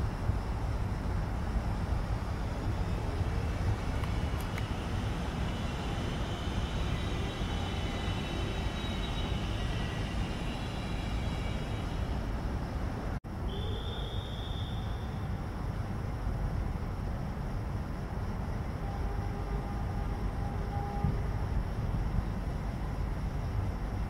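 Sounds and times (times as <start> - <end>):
electric locomotive rumbling: 0.0 - 13.2, 13.8 - 24.0.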